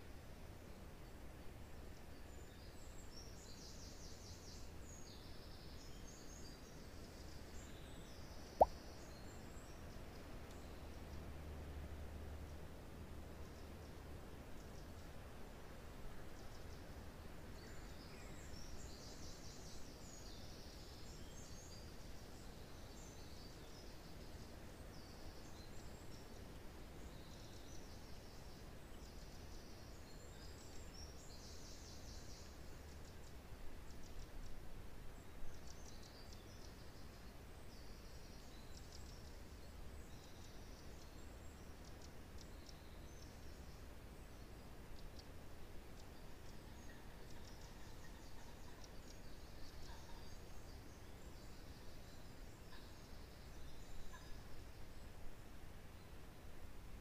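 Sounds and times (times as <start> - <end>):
forest birds chirping: 0.0 - 57.0
wind rushing through pine trees: 0.0 - 57.0.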